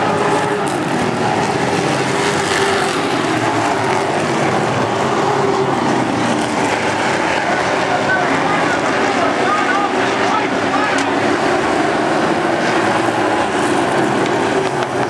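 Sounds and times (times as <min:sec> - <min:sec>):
race truck engines at speed: 0:00.0 - 0:15.0.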